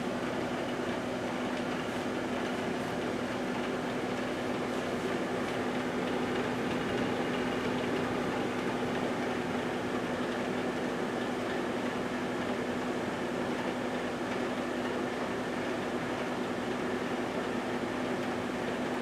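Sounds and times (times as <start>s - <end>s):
microwave oven humming: 0.0s - 19.0s.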